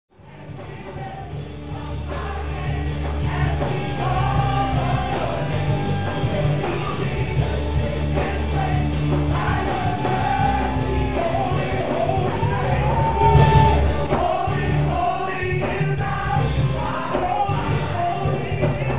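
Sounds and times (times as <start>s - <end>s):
gospel song with full band: 0.1s - 18.9s.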